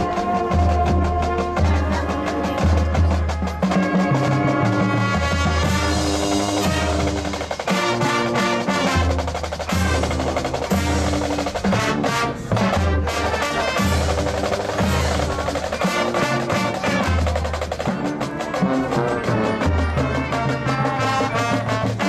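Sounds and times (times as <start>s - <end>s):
snare drum strokes and rolls: 0.0s - 22.0s.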